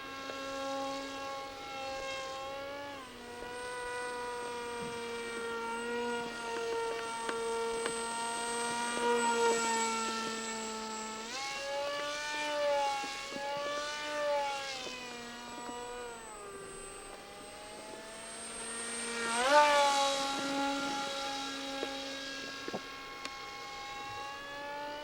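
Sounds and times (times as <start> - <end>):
model jet motor whine: 0.0 - 25.0.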